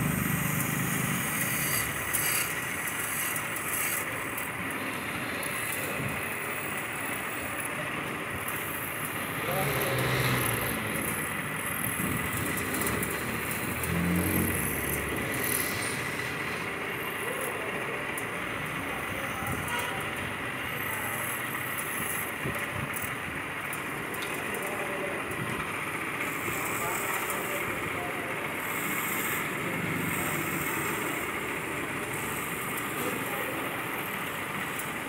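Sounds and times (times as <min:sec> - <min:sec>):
wood lathe turning wood: 0:00.0 - 0:35.0.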